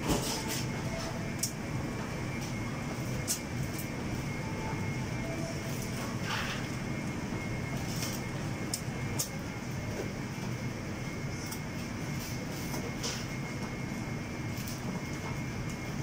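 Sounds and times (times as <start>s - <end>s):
extraction fans running: 0.0s - 16.0s.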